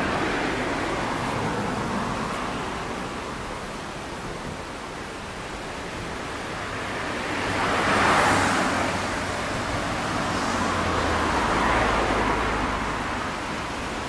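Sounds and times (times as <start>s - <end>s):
road vehicles passing: 0.0s - 14.0s
steady rushing hiss: 0.0s - 14.0s.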